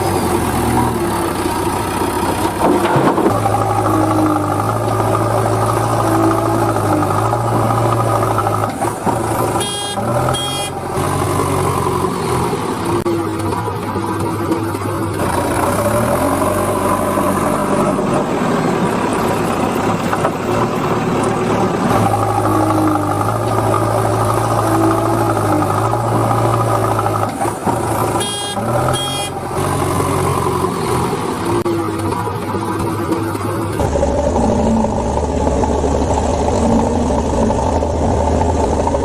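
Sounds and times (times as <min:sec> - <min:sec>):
vehicle engine: 0:00.0 - 0:39.0.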